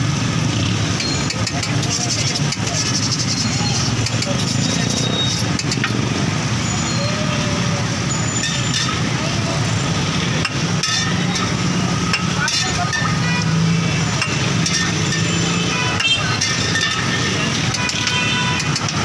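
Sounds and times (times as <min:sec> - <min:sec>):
traffic rumble: 0:00.0 - 0:19.0
metal utensils on griddle: 0:00.9 - 0:07.3, 0:08.1 - 0:19.0
background chatter: 0:01.0 - 0:19.0.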